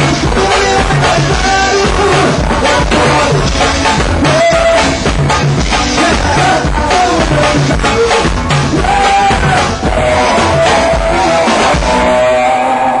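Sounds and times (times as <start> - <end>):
drum kit beat: 0.0 - 12.6
live rock band playing: 0.0 - 13.0.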